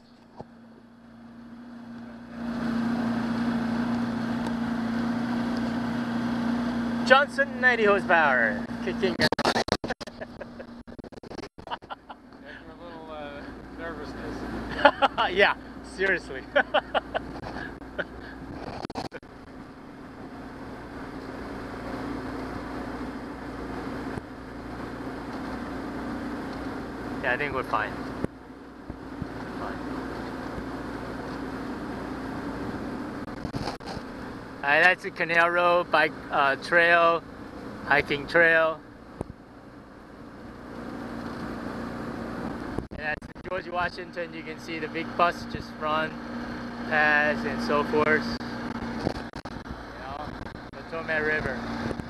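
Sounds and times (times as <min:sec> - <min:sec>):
outboard motor running: 0:00.0 - 0:52.0.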